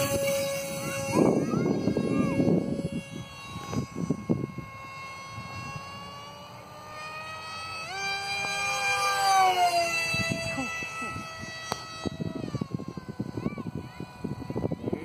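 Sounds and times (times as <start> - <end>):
electric motor and propeller whining: 0.0 - 15.0
wind buffeting microphone: 0.0 - 15.0.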